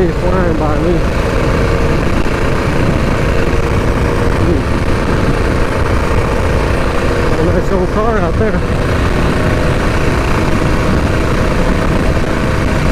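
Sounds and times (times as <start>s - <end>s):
mini bike engine running: 0.0s - 12.9s
wind rumble on microphone: 0.0s - 12.9s.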